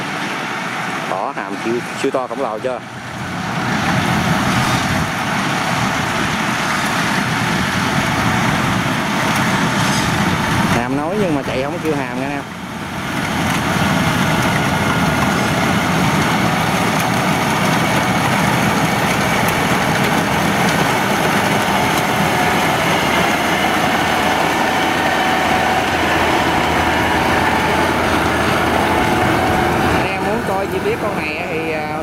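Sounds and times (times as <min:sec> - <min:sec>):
combine harvester engine drone: 0:00.0 - 0:32.0
whining tones: 0:02.9 - 0:32.0.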